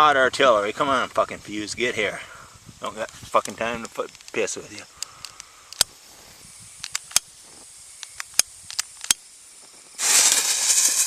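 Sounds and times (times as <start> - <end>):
fuse burning with loud hiss: 1.2 - 11.0.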